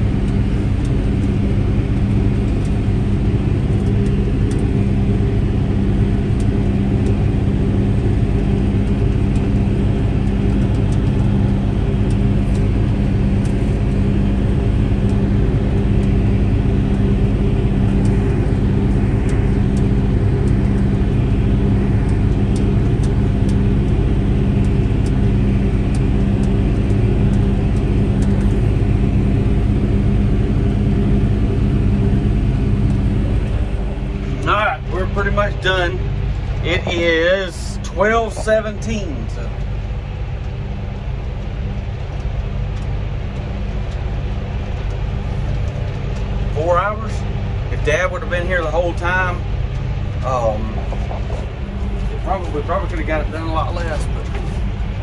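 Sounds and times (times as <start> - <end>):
tractor engine drone: 0.0 - 55.0.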